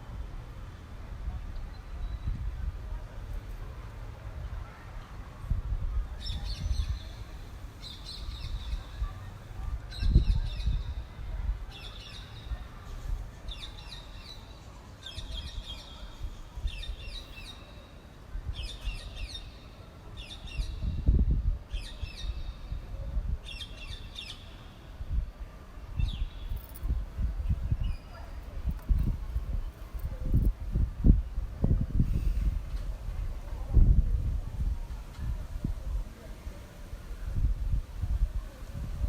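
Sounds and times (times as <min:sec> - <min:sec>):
wind buffeting microphone: 0:00.0 - 0:14.4, 0:15.1 - 0:17.5, 0:20.4 - 0:24.3, 0:24.9 - 0:39.0.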